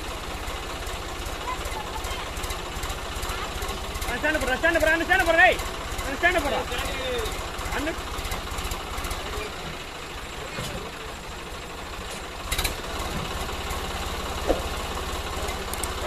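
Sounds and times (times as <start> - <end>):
diesel tractor engine chugging: 0.0 - 16.0.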